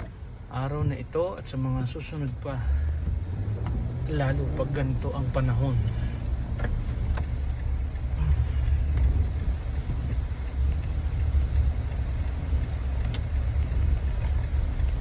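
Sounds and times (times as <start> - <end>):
car driving on wet road: 0.0 - 15.0
heavy rain: 0.0 - 15.0.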